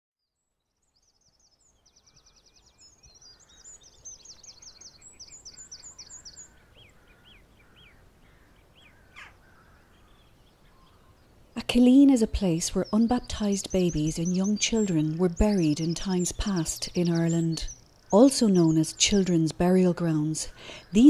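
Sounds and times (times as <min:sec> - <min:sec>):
songbirds singing: 0:00.2 - 0:21.0.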